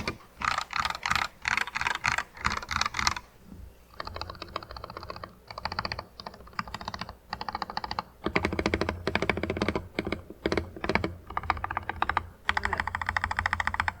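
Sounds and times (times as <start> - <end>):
mechanical keyboard typing: 0.0 - 3.2, 3.9 - 14.0.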